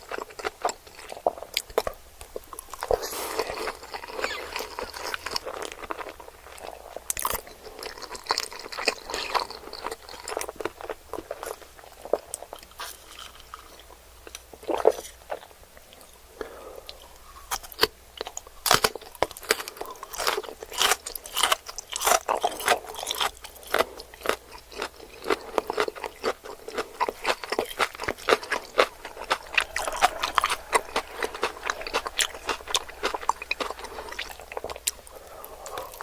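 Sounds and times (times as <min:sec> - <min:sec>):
chewing with wet mouth clicks: 0:00.0 - 0:16.2, 0:16.9 - 0:36.0.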